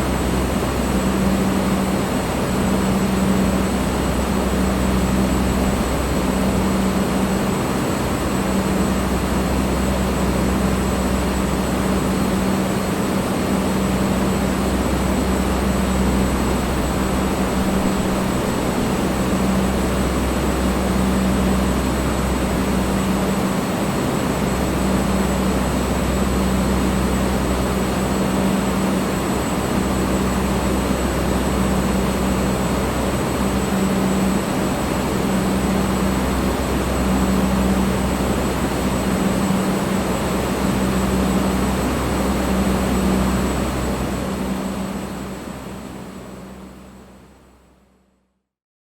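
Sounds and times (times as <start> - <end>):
electric fan blowing: 0.0 - 45.7.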